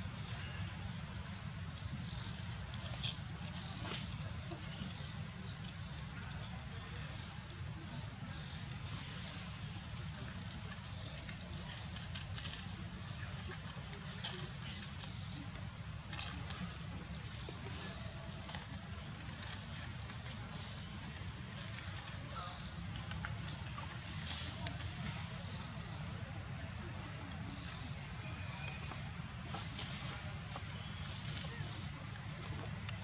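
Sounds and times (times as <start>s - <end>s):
birds chirping: 0.2s - 33.0s.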